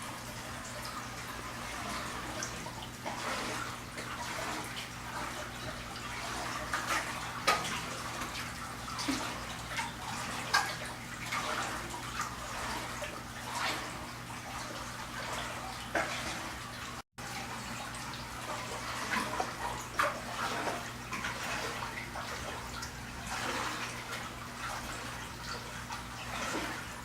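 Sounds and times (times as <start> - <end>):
water splashing and trickling: 0.0 - 27.0.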